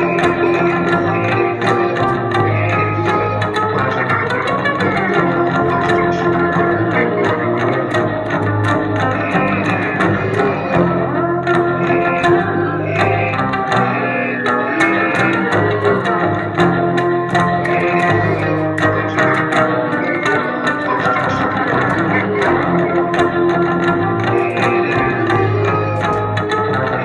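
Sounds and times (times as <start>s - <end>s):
looped electric upright bass: 0.0s - 27.0s.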